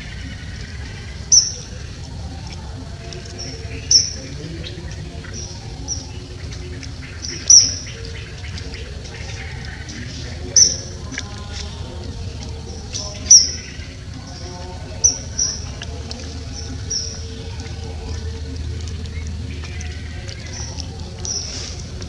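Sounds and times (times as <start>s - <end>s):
bird chirping: 0.0s - 22.0s
low background rumble: 0.0s - 22.0s.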